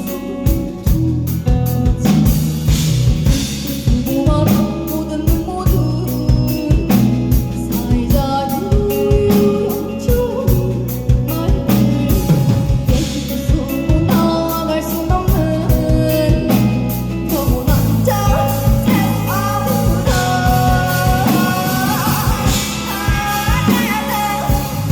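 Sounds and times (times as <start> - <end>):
woman singing: 0.0 - 2.5, 3.3 - 24.9
drum kit beat: 0.0 - 24.9
live rock band playing: 0.0 - 24.9.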